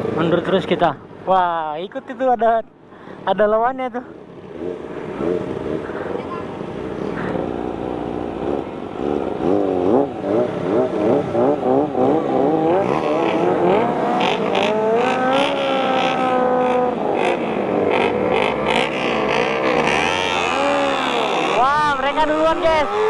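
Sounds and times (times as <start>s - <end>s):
motorcycle engine revving: 4.0s - 23.0s.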